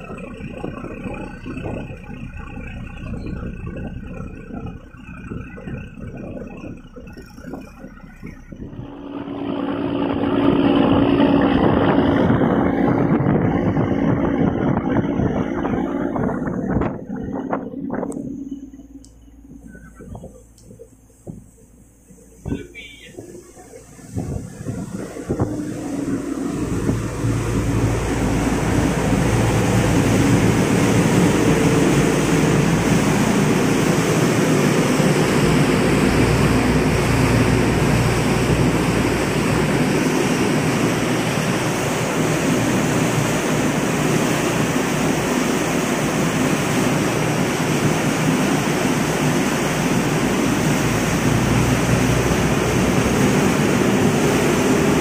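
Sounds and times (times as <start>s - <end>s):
boat engines droning: 0.0s - 55.0s
wake water rushing: 0.0s - 55.0s.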